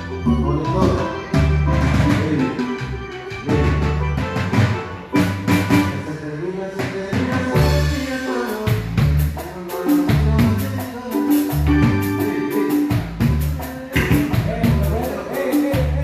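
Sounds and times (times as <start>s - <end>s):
deep repeating bass notes: 0.0s - 16.0s
drum kit: 0.0s - 16.0s
keyboards: 0.0s - 16.0s
live band playing: 0.0s - 16.0s.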